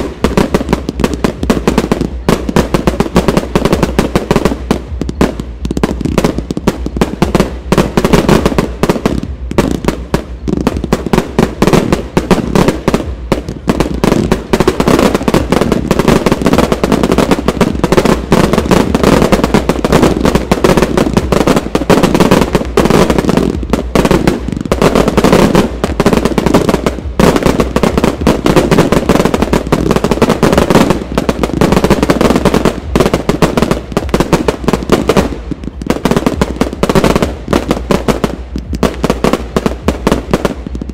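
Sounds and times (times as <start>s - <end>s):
firework bursts and bangs: 0.0s - 40.9s.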